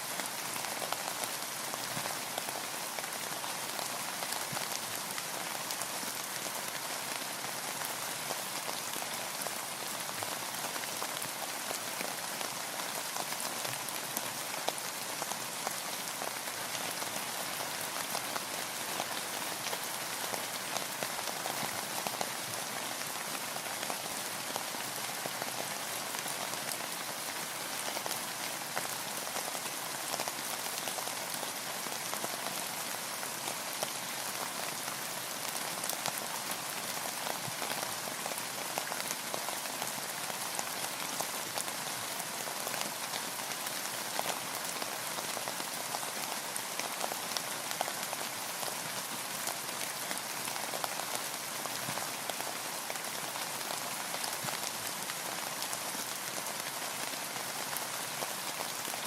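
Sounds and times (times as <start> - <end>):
rain pattering on a boat: 0.0 - 59.0.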